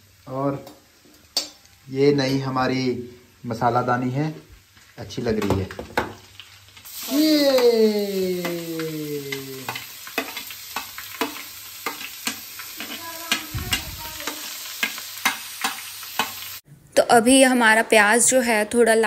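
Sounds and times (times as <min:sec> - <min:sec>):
oil sizzling: 0:00.0 - 0:16.6.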